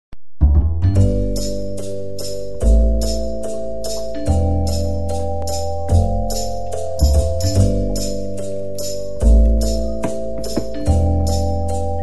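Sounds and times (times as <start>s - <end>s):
background music with steady beat: 0.4s - 12.0s.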